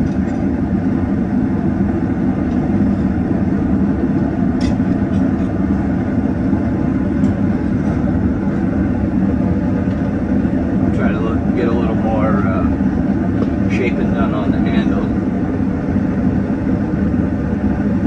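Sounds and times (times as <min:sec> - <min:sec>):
forge fan low rush: 0:00.0 - 0:18.0.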